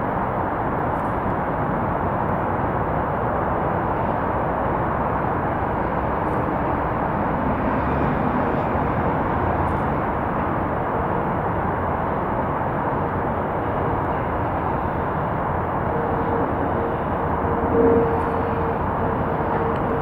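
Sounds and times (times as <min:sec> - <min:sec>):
distant jet engine rush: 0:00.0 - 0:20.0.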